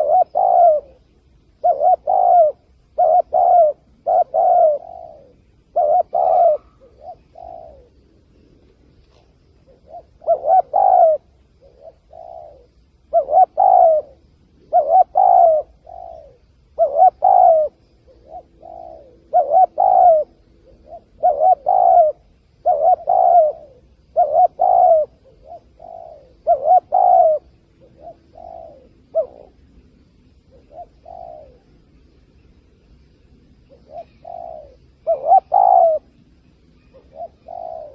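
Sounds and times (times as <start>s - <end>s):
dove cooing: 0.0s - 32.1s, 33.6s - 37.9s.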